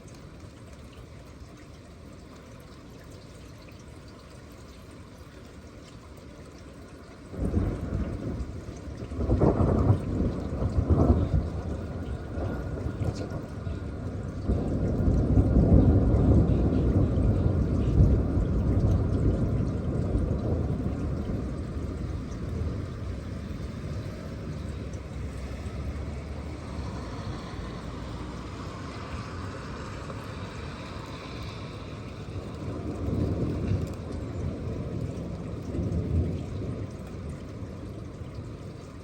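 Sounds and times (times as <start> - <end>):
rolling thunder rumble: 7.2 - 39.0.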